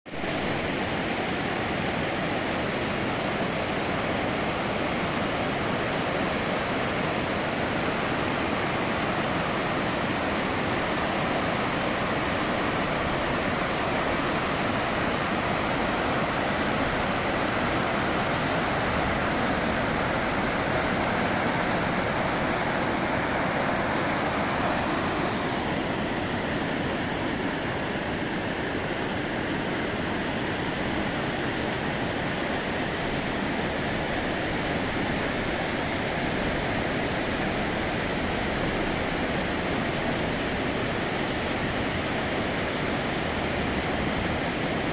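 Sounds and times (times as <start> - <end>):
river water rushing: 0.1 - 44.9.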